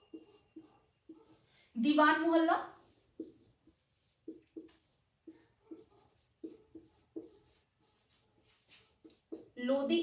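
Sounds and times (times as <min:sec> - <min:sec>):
marker writing on whiteboard: 0:00.0 - 0:09.6.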